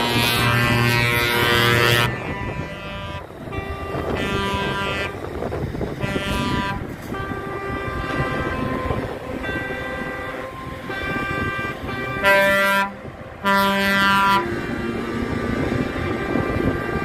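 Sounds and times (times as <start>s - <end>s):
truck air horn blasts: 0.0s - 17.0s
truck engines rumbling: 0.0s - 17.0s.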